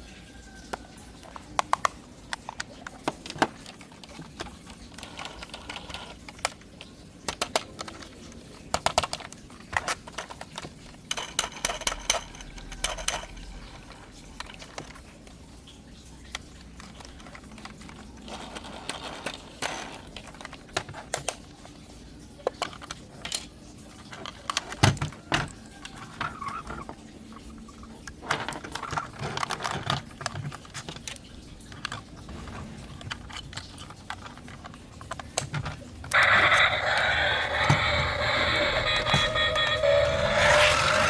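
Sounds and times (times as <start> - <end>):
plastic toys clicking and clattering: 0.0 - 41.0.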